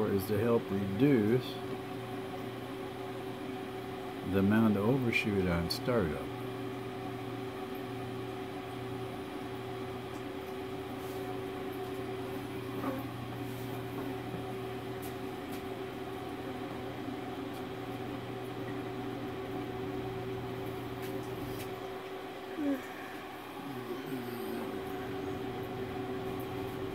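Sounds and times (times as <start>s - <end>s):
combustion fan humming: 0.0s - 26.9s.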